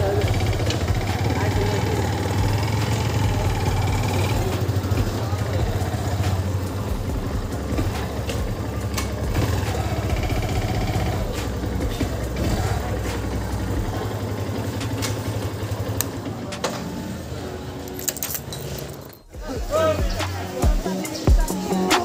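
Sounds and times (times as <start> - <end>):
motorcycle engine idling: 0.0 - 18.1.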